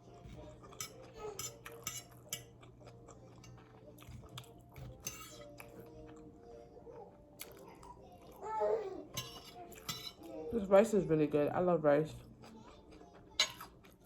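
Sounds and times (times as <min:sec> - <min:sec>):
chewing: 0:00.0 - 0:10.4, 0:12.2 - 0:14.0.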